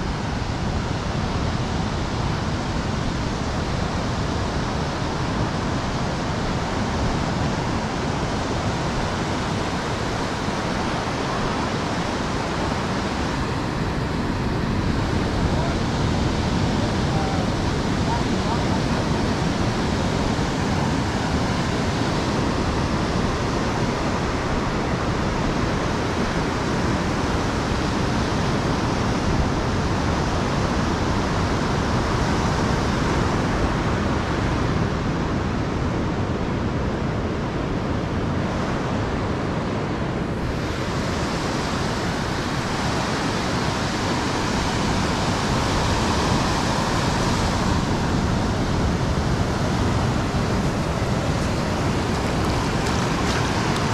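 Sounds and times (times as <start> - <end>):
ocean surf rushing: 0.0 - 53.9.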